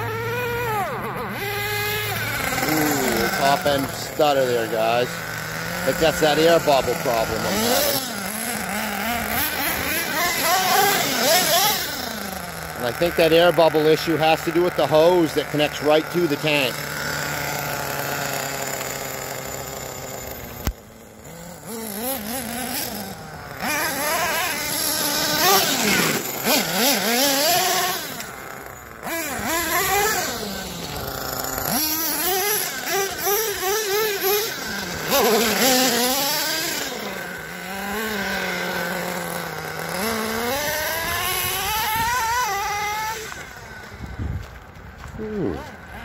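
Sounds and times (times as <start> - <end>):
small nitro engine revving: 0.0 - 46.0.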